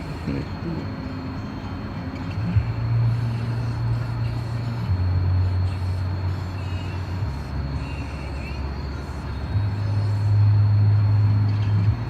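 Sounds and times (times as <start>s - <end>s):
motor vehicle low drone: 0.0s - 12.0s.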